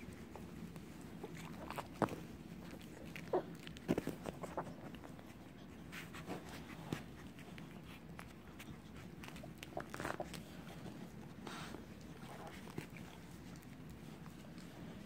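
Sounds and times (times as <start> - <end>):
puppies clicking and shuffling: 0.0 - 15.0.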